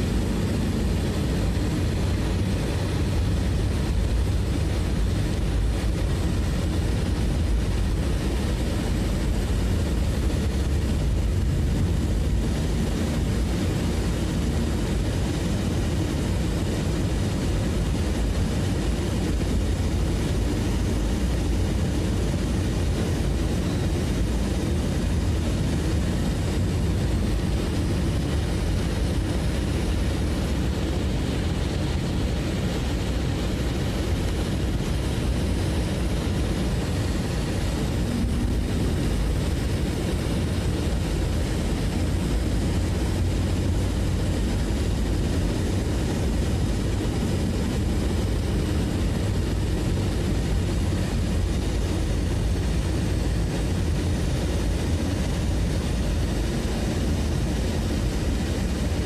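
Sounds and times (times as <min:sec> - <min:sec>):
vehicle engine rumble: 0:00.0 - 0:59.0.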